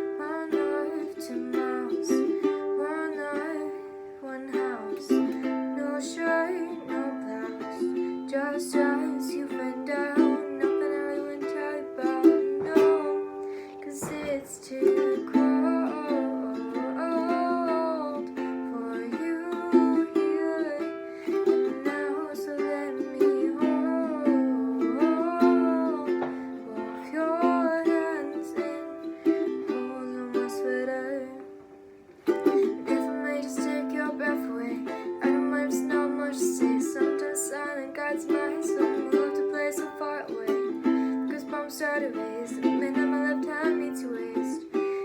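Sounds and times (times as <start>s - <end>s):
person singing wordless melody: 0.0s - 45.0s
ukulele strumming: 0.0s - 45.0s.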